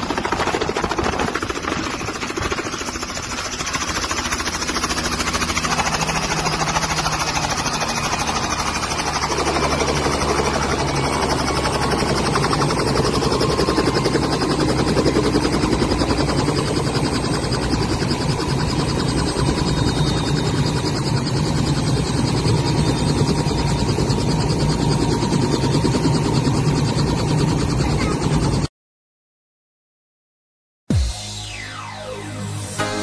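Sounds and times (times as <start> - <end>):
helicopter rotor blades chopping: 0.0 - 28.7.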